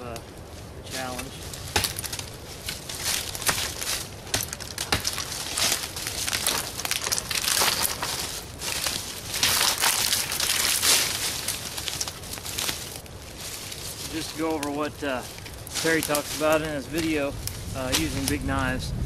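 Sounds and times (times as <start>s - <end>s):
footsteps in dry leaves: 0.0s - 18.7s.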